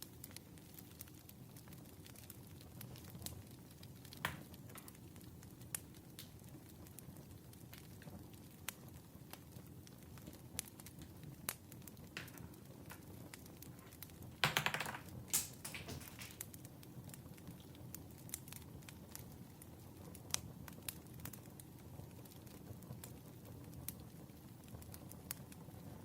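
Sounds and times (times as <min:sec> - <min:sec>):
low steady hiss: 0:00.0 - 0:26.0
wood fire crackling: 0:00.0 - 0:26.0.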